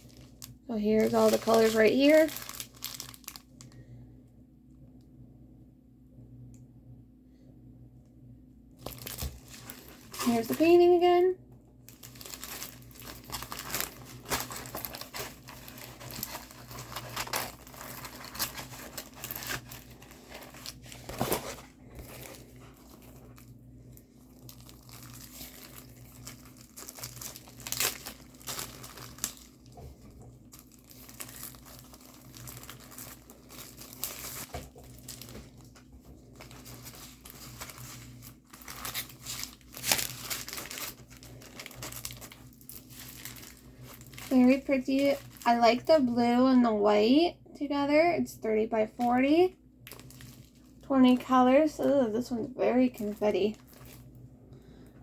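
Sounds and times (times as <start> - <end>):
plastic packaging crinkling: 0.0 - 3.9, 8.8 - 46.1, 48.9 - 54.9.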